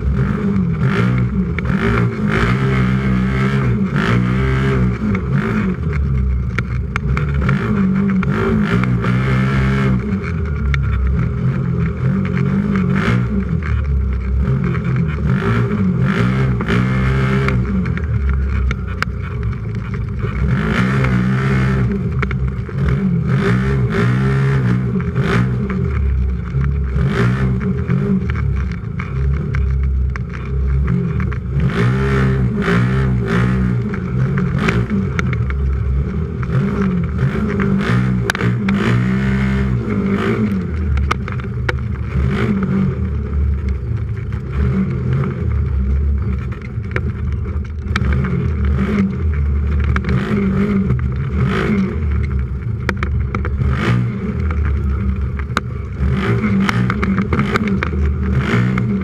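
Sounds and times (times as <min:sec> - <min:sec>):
engine revving: 0:00.0 - 0:59.0.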